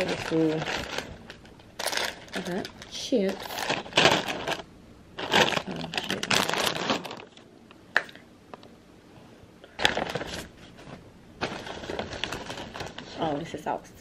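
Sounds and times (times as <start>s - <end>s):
paper wrappers rustling: 0.0s - 7.5s, 9.7s - 13.7s.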